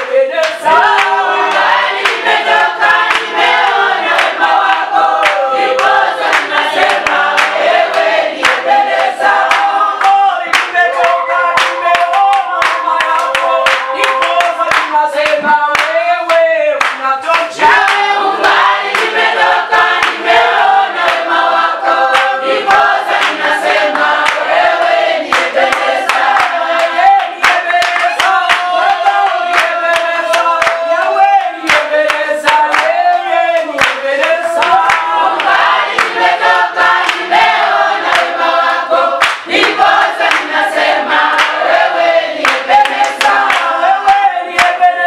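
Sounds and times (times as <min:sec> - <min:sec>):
congregation singing: 0:00.0 - 0:45.0
rhythmic hand clapping: 0:00.0 - 0:45.0.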